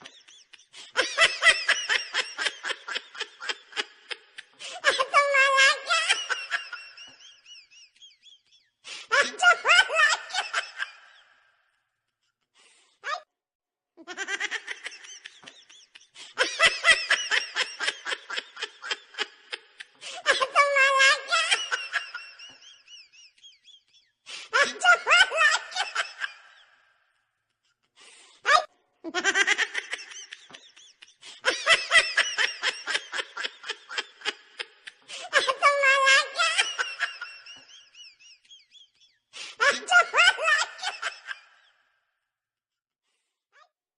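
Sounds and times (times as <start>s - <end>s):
person laughing: 0.0s - 11.4s, 14.0s - 26.8s, 28.5s - 41.7s.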